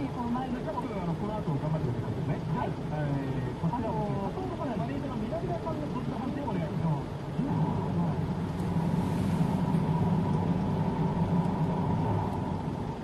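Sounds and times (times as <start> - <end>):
road traffic engine drone: 0.0 - 13.0.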